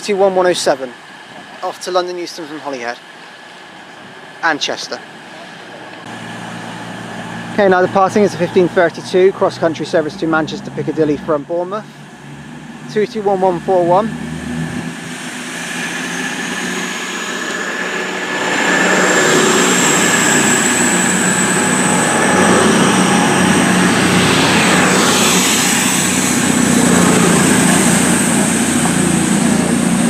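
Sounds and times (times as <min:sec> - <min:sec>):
train diesel engines whining: 0:00.0 - 0:30.0.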